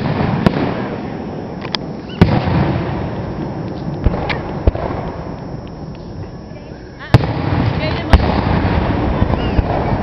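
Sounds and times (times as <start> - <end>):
fireworks bursting with bangs: 0.0 - 10.0.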